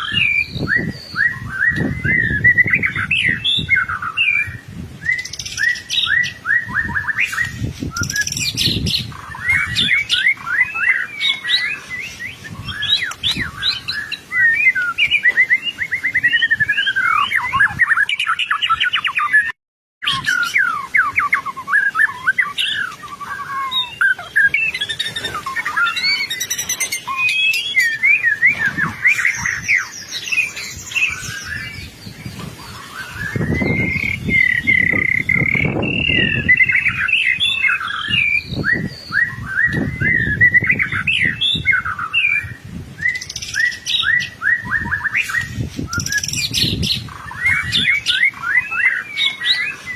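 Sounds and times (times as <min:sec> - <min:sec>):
songbird singing trills and whistles: 0:00.0 - 0:49.9.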